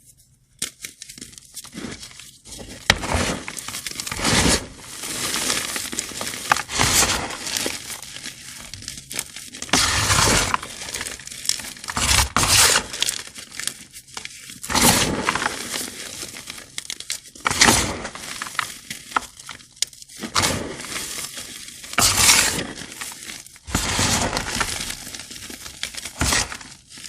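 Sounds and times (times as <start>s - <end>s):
chalk crumbling: 0.0s - 27.0s
chalk blocks crunching: 0.6s - 27.0s.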